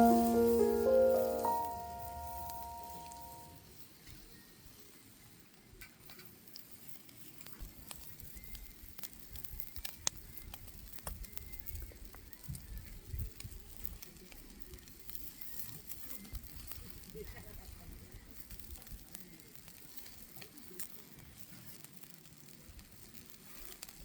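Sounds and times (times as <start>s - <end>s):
fire crackling and popping: 0.0s - 4.1s, 5.5s - 24.0s.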